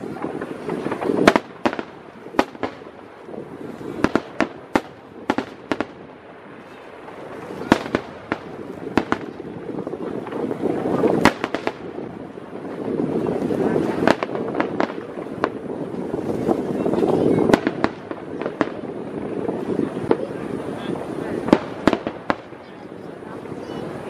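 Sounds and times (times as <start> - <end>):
fireworks bangs and pops: 0.0 - 24.0.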